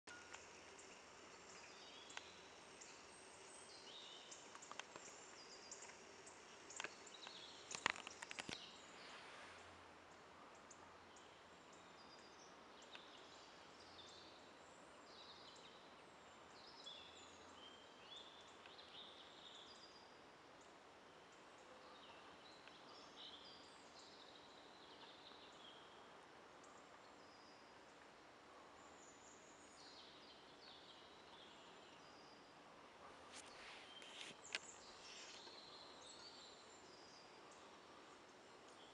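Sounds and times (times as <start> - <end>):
faint background hiss: 0.0 - 38.9
songbirds chirping: 0.0 - 38.9.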